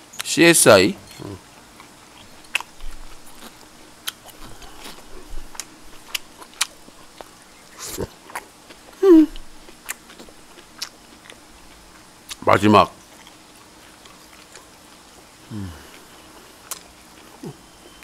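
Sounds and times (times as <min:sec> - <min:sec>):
falling hum from eater: 0:00.0 - 0:18.0
person chewing food: 0:01.1 - 0:12.4, 0:13.0 - 0:18.0.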